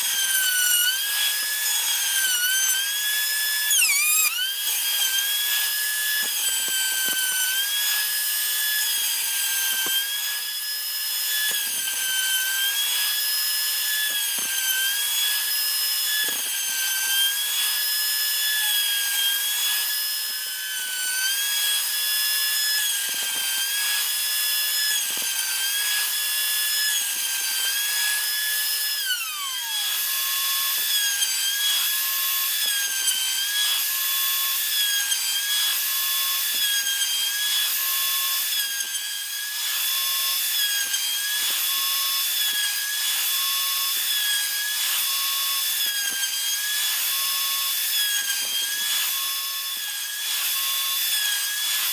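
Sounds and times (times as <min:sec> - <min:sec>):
router cutting wood: 0:00.0 - 0:51.9.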